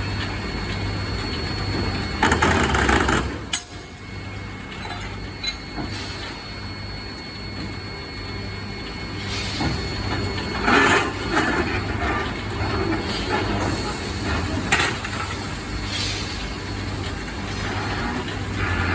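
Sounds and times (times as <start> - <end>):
factory machinery humming: 0.0 - 18.9.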